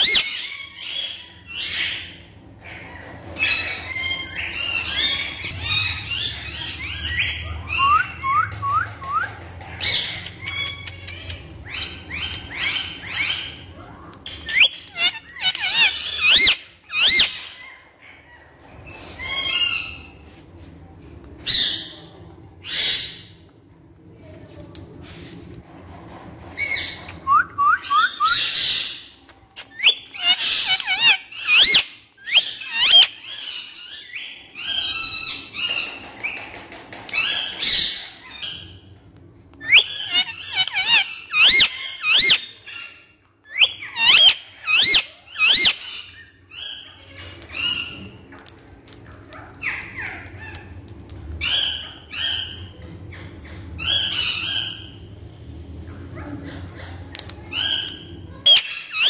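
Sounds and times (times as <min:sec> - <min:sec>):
parakeet calling and chattering: 0:00.0 - 0:20.2, 0:26.6 - 0:36.4, 0:39.6 - 0:55.1, 0:56.0 - 0:59.0.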